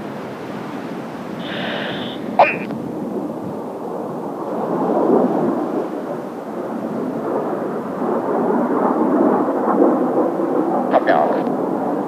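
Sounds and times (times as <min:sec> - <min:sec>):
jet planes flying overhead: 0:00.0 - 0:12.0.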